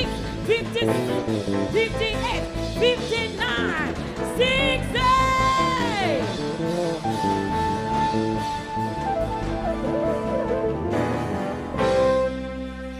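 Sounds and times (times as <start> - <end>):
live band music with drums: 0.0 - 12.9.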